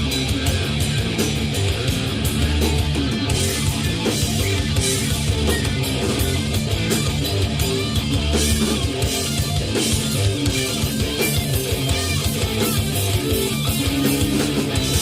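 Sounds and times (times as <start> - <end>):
bass guitar: 0.0 - 15.0
distorted electric guitars: 0.0 - 15.0
drum kit with cymbals: 0.0 - 15.0.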